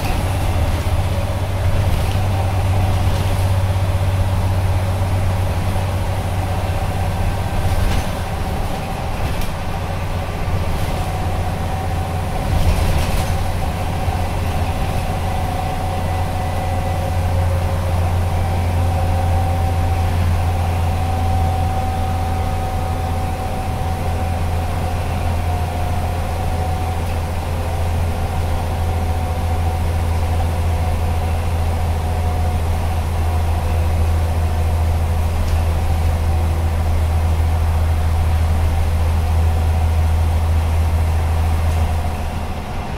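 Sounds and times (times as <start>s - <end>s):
bus diesel engine drone: 0.0s - 42.9s.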